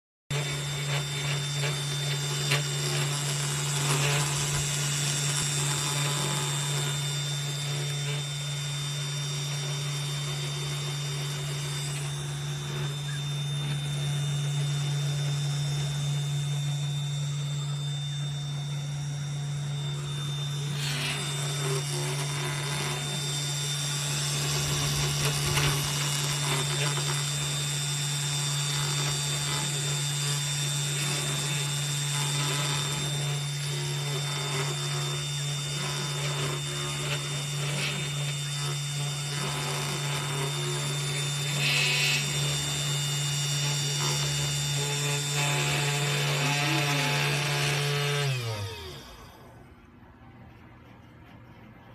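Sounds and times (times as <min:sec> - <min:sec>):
router spindle motor humming: 0:00.3 - 0:49.7.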